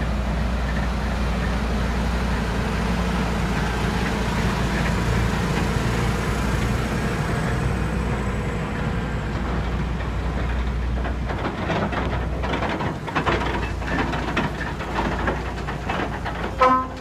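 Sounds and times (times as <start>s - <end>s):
trailer rattling and clanking: 0.0s - 17.0s
truck engine rumble: 0.0s - 17.0s.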